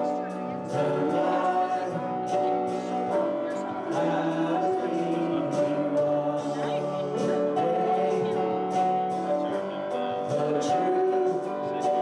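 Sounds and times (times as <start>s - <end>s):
congregation singing a hymn: 0.0s - 12.0s
instrumental accompaniment: 0.0s - 12.0s.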